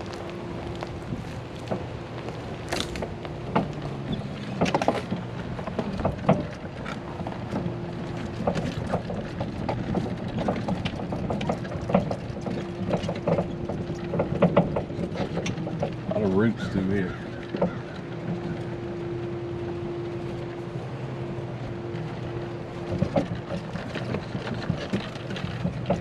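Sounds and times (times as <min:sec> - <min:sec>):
rattles and knocks from bumps: 0:00.0 - 0:20.6, 0:21.5 - 0:26.0
small vehicle motor humming: 0:00.0 - 0:26.0.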